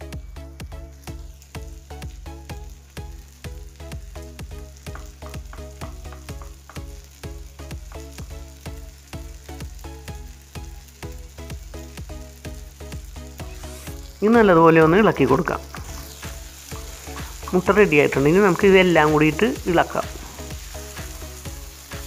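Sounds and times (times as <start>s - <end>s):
background music with steady beat: 0.0s - 22.0s
egg sizzling in hot oil: 0.0s - 22.0s.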